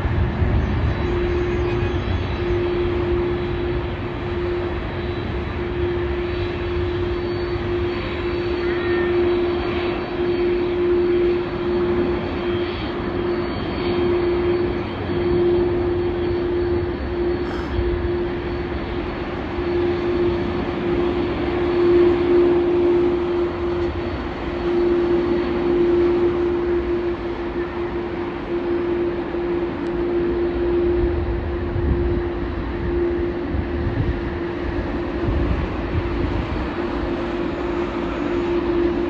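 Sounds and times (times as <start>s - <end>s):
jet engines rumbling: 0.0s - 39.0s
steady droning tone: 0.0s - 39.0s.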